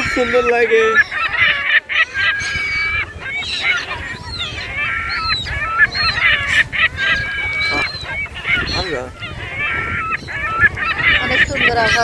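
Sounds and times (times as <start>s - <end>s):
gulls and waterbirds squawking: 0.0s - 12.0s.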